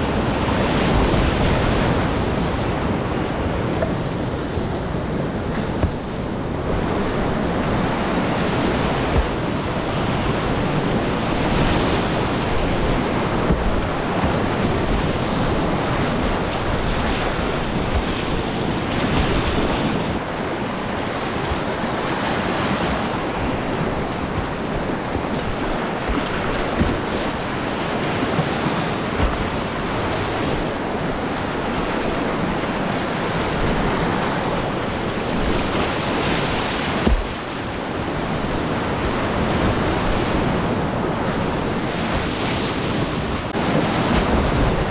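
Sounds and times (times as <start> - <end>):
rapids rushing water: 0.0 - 44.9
paddle splashing water: 0.1 - 44.9.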